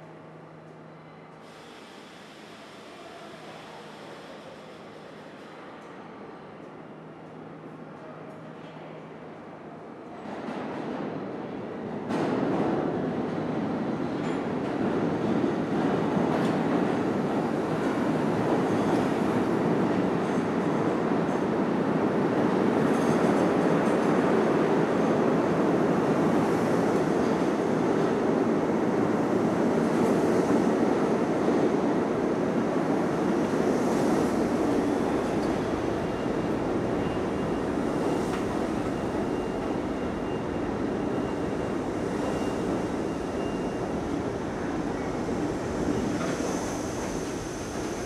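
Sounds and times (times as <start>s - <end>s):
subway train wheels rumbling: 0.0s - 48.0s.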